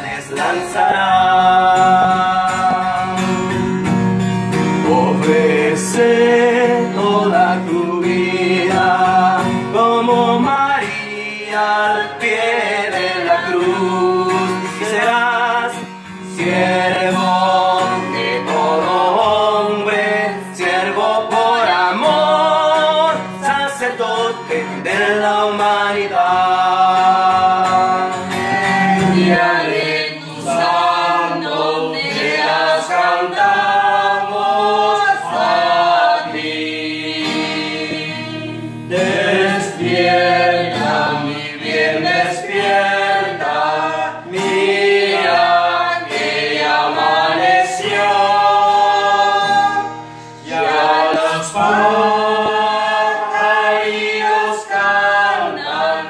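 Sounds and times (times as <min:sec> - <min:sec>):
men and women singing: 0:00.0 - 0:03.9, 0:04.6 - 0:56.0
acoustic guitar: 0:00.0 - 0:56.0.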